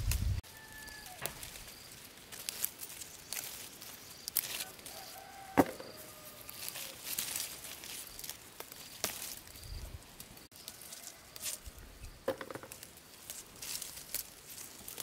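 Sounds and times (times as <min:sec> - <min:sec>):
stems snapping: 0:00.0 - 0:11.6, 0:12.4 - 0:15.0
leaves rustling: 0:00.0 - 0:15.0.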